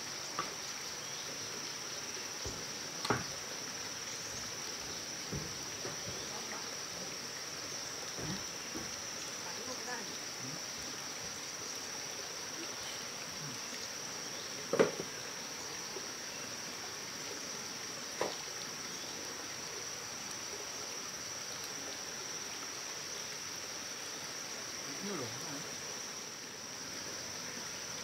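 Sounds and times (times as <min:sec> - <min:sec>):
high insect drone: 0:00.0 - 0:28.0
running water hiss: 0:00.0 - 0:28.0.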